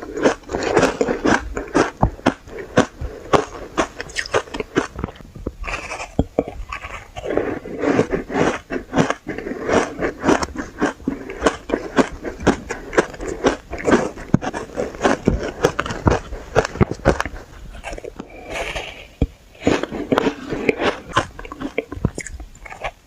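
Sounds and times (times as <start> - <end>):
chewing crunchy shaved ice: 0.0 - 23.0.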